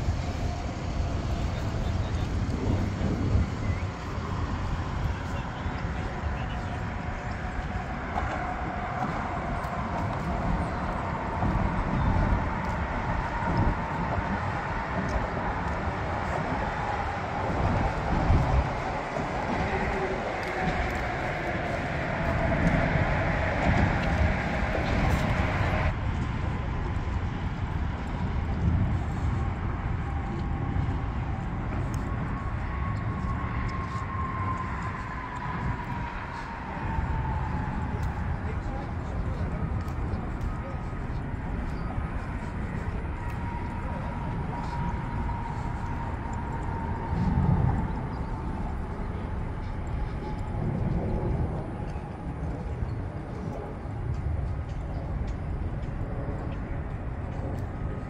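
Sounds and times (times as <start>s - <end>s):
road traffic rumble: 0.0s - 58.0s
wind buffeting microphone: 0.0s - 58.0s.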